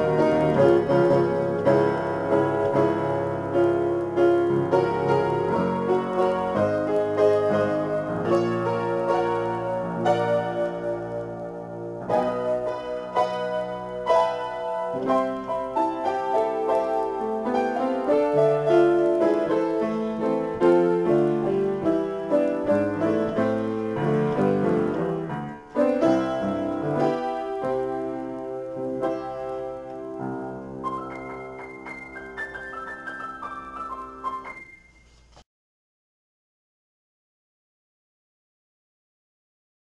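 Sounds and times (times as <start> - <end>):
solo piano playing: 0.0 - 35.4.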